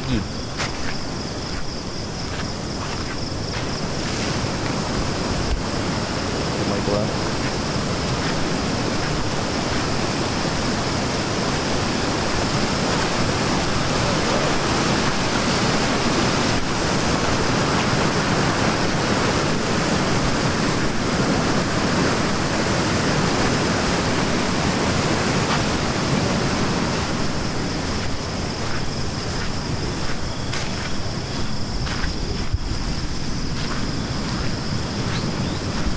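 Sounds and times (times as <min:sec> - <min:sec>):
fast-flowing river rushing: 0:01.4 - 0:35.9.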